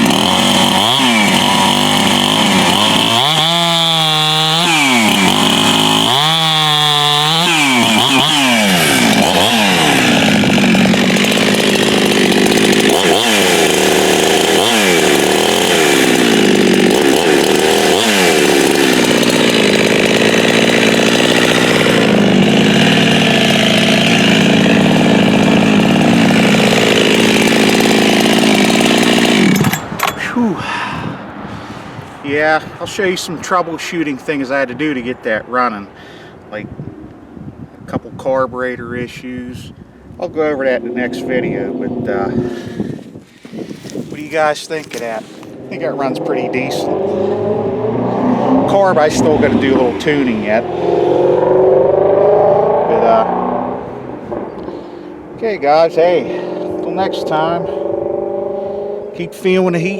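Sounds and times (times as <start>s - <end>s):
chainsaw revving and cutting wood: 0.0s - 31.0s, 40.7s - 59.9s.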